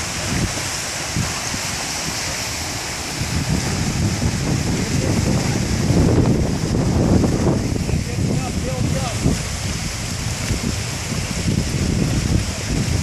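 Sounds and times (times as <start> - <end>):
river ice and slush hissing: 0.0 - 13.0
wind buffeting the microphone: 0.0 - 13.0.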